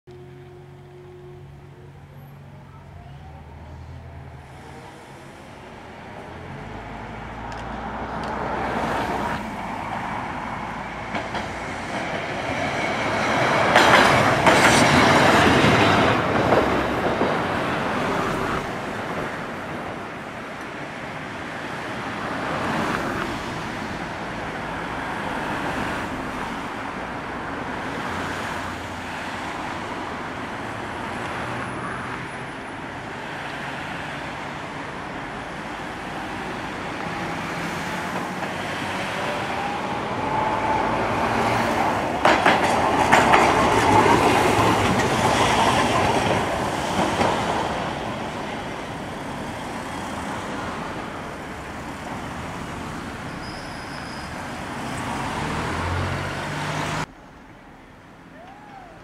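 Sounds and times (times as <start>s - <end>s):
tram motor and wheels rumbling: 0.1s - 59.0s
cars passing: 0.5s - 59.0s.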